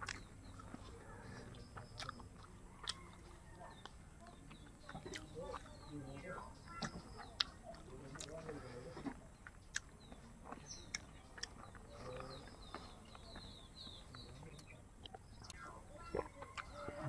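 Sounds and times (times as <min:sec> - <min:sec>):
bird chirping: 0:00.0 - 0:17.0
man chewing with lip smacks: 0:00.0 - 0:17.0.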